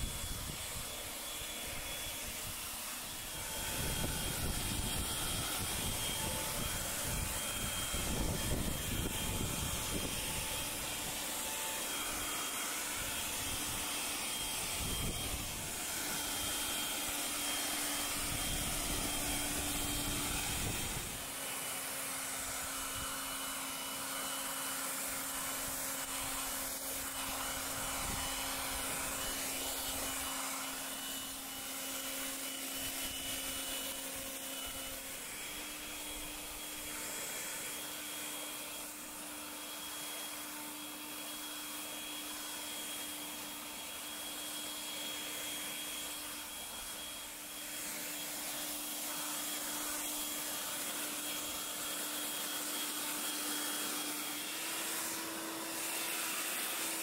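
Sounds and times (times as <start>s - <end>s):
garden blower motor whine: 0.0s - 57.0s.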